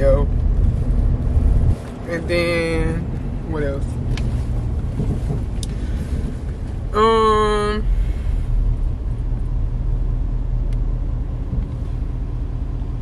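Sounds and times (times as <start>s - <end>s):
car engine rumble inside cabin: 0.0s - 13.0s.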